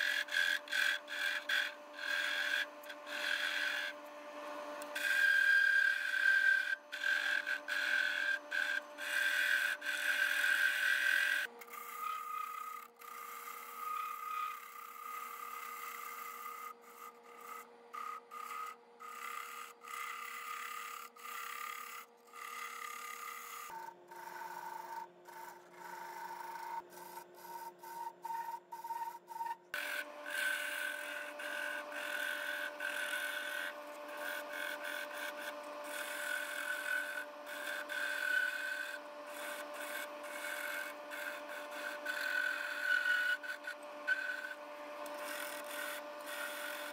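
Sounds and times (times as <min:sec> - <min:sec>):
chisel scraping spinning wood: 0:00.0 - 0:46.9
wood lathe motor whine: 0:00.0 - 0:46.9.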